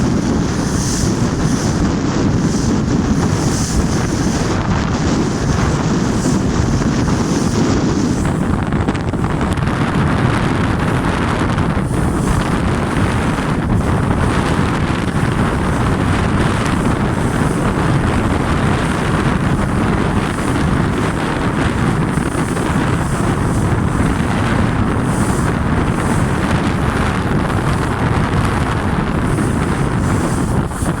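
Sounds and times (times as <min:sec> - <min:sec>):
water rushing past hull: 0:00.0 - 0:31.0
wind buffeting microphone: 0:00.0 - 0:31.0.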